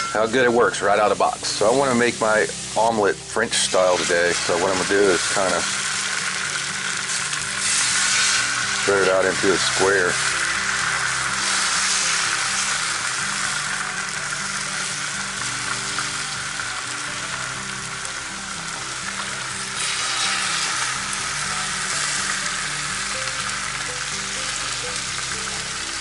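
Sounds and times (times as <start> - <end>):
eggs sizzling on a griddle: 0.0 - 26.0
sausage and mushrooms frying: 0.0 - 26.0.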